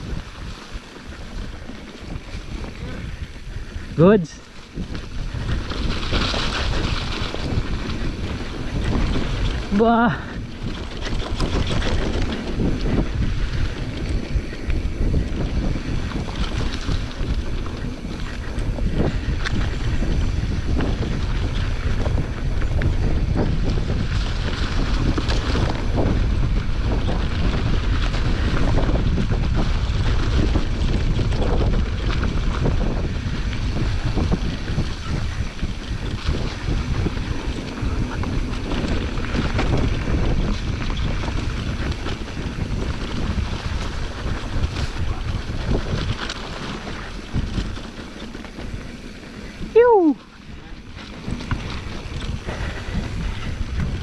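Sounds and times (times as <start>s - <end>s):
bike clattering over bumps: 0.0s - 49.7s, 50.3s - 54.0s
tyres rumbling over dirt: 0.0s - 54.0s
wind buffeting microphone: 0.0s - 54.0s.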